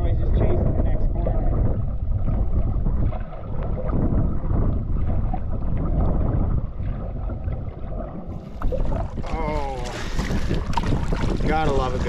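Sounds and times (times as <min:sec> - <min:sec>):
wind buffeting microphone: 0:00.0 - 0:12.0
canoe paddling: 0:01.1 - 0:12.0.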